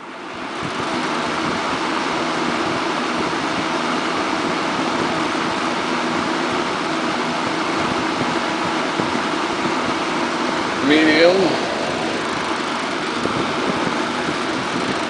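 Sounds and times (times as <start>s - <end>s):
fan air rush: 0.0s - 15.0s
low motor hum: 0.0s - 15.0s.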